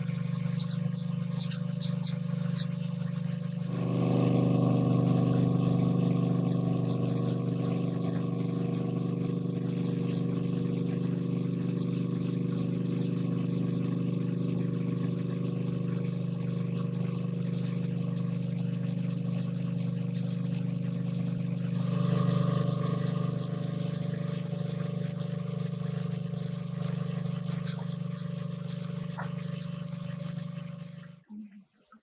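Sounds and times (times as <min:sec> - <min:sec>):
small engine running: 0:00.0 - 0:31.2.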